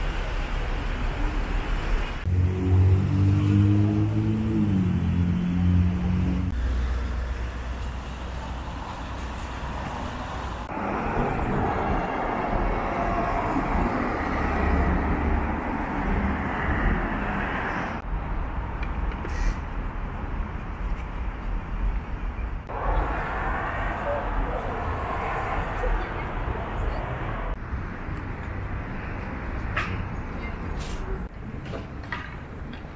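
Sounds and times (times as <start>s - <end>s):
vehicle engine and tyre rumble: 0.0s - 32.9s.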